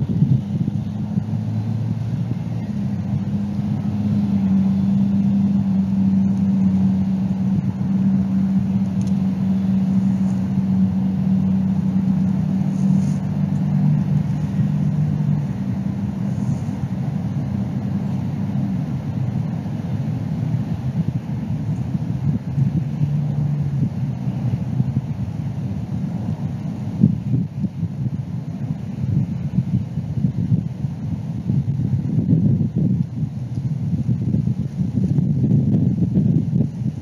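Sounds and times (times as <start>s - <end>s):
low engine hum: 0.0s - 37.0s
lower tone: 0.0s - 37.0s.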